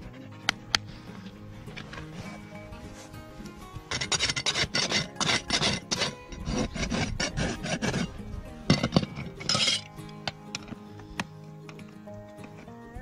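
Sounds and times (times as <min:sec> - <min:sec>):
hoof rasp scraping: 0:00.0 - 0:13.0.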